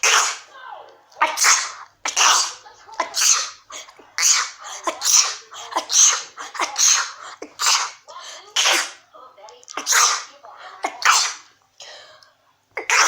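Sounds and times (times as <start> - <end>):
person sneezing: 0.0 - 0.5, 1.2 - 9.0, 9.8 - 12.0, 12.8 - 13.0.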